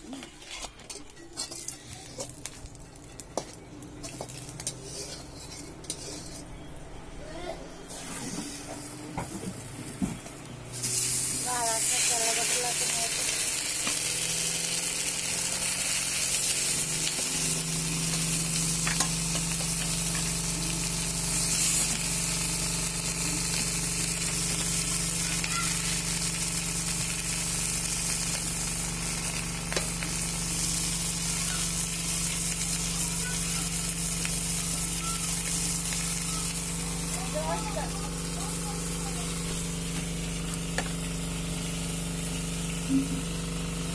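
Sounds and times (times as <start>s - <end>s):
fish sizzling in hot oil: 1.4s - 6.3s, 10.7s - 43.9s.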